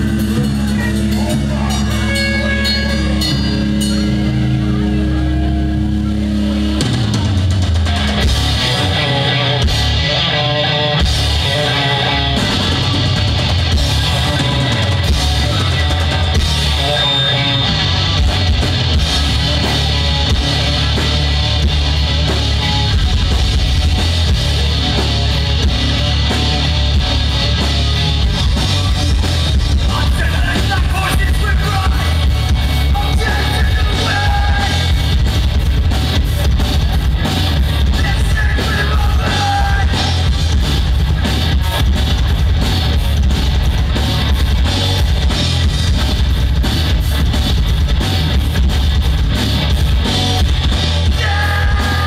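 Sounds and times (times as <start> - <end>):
drum kit: 0.0 - 5.2, 6.0 - 52.0
distorted electric guitars: 0.0 - 52.0.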